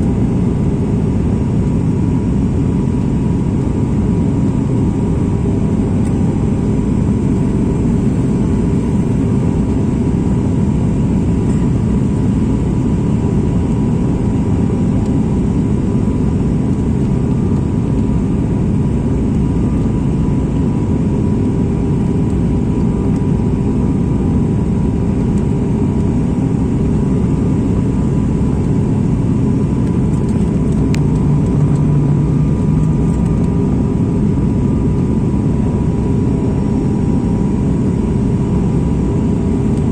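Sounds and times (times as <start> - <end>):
airliner engines rumbling in cabin: 0.0 - 39.9
faint constant whine: 0.0 - 39.9
low hum: 0.0 - 39.9.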